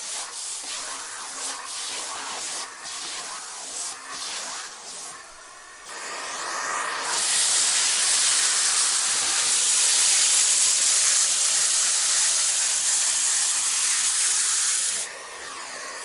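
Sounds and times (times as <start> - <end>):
vacuum cleaner hiss: 0.0 - 16.0.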